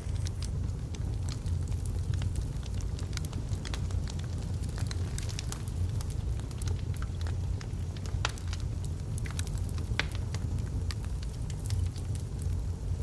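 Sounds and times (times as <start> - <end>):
fire low rumble: 0.0 - 13.0
logs crackling and popping: 0.0 - 13.0.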